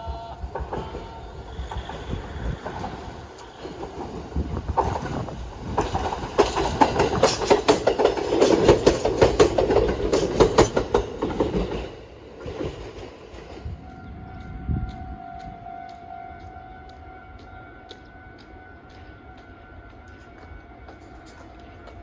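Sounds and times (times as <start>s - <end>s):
train wheels clacking: 0.4s - 22.0s.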